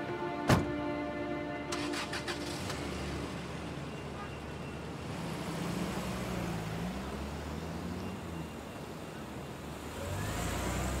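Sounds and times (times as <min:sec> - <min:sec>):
road noise: 0:00.0 - 0:11.0
car engine humming: 0:00.2 - 0:11.0.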